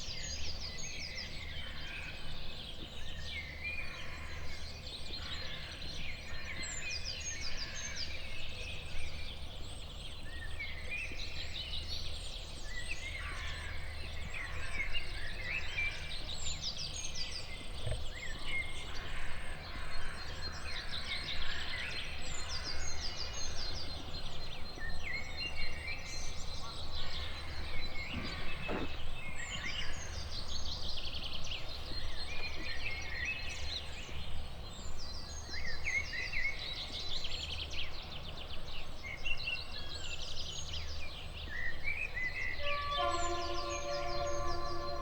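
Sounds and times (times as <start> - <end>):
songbirds singing: 0.0 - 45.0.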